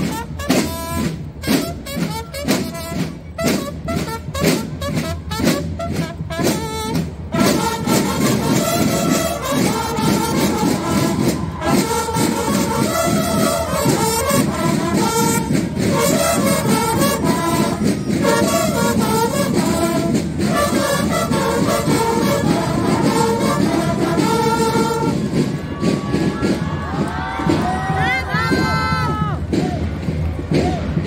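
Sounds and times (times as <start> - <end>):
brass marching band playing: 0.0 - 31.0.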